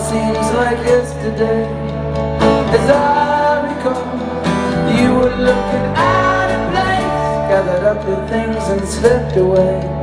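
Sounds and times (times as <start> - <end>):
live rock band playing: 0.0 - 10.0
person singing: 0.0 - 10.0.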